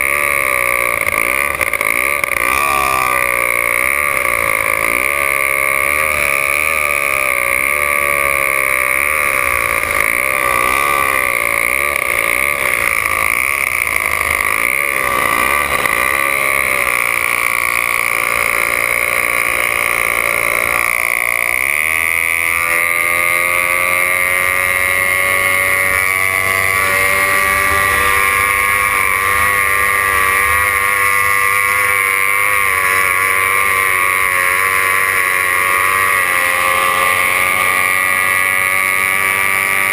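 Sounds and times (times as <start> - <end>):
racing boat engine revving: 0.0 - 39.9.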